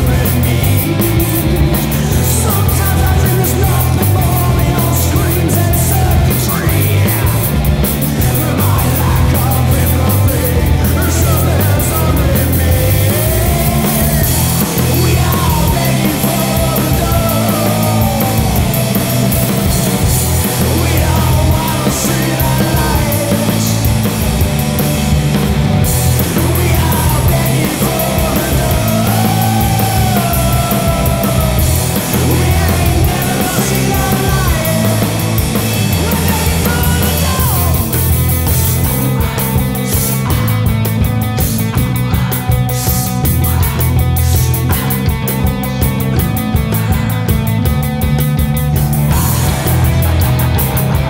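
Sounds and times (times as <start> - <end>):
loud rock song: 0.0 - 51.0.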